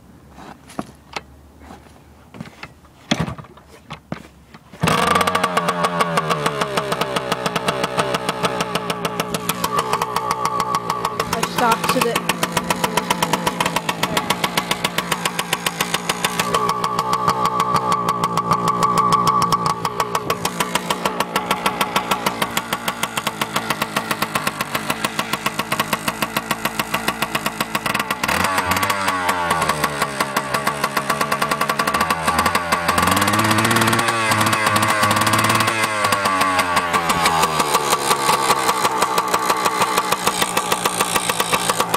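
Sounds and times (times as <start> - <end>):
two-stroke engine idling and revving: 4.8 - 41.9.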